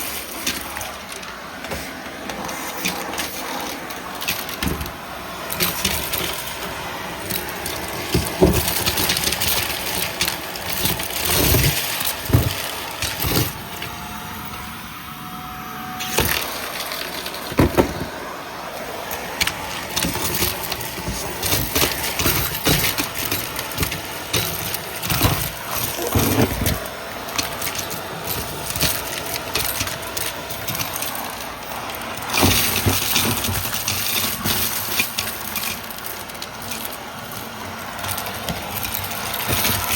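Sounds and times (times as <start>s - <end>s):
debris rattling through vacuum: 0.0s - 39.9s
vacuum cleaner motor: 0.0s - 39.9s.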